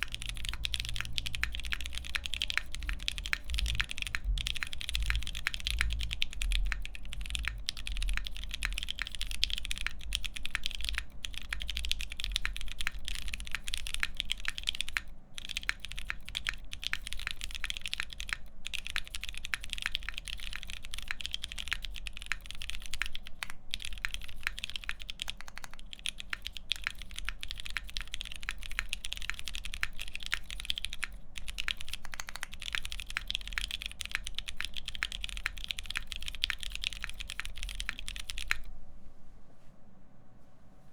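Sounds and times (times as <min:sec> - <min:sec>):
fast typing on mechanical keyboard: 0:00.0 - 0:38.7.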